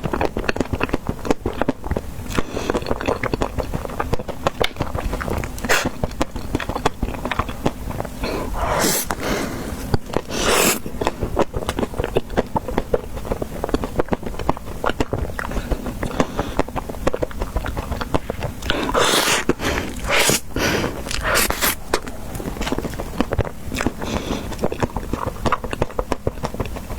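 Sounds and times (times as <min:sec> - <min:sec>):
mouth clicks and chewing: 0:00.0 - 0:26.9
crunchy bites: 0:02.8 - 0:26.9.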